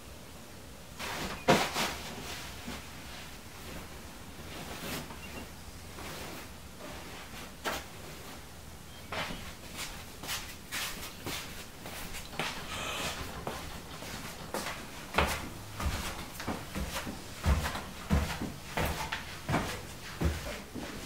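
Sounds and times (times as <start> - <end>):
bedding rustling: 0.9 - 21.0.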